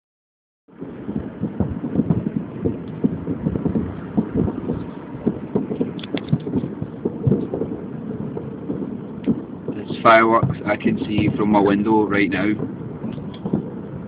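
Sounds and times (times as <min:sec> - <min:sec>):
distant fireworks bangs: 0:00.7 - 0:14.0.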